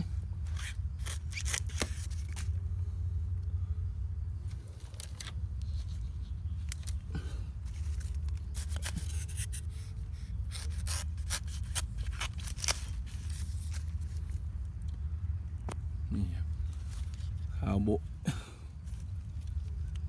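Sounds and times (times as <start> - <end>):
dry leaves and stalks crackling: 0.0 - 3.2, 4.3 - 20.0
steady low rumble: 0.0 - 20.0.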